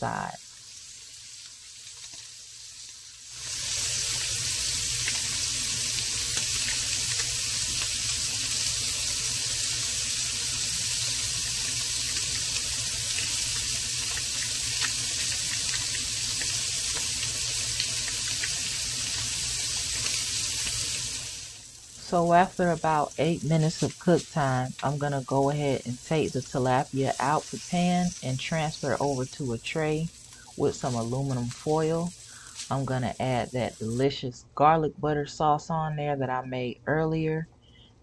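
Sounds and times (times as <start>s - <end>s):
fish sizzling in hot oil: 0.0s - 34.1s.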